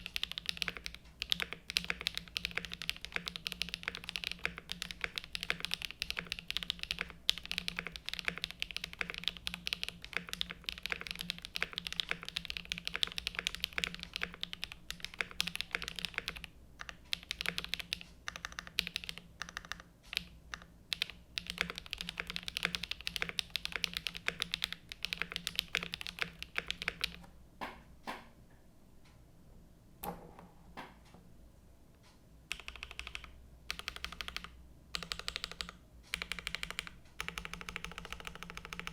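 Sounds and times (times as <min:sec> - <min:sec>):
mechanical keyboard typing: 0:00.0 - 0:27.3, 0:32.5 - 0:38.9.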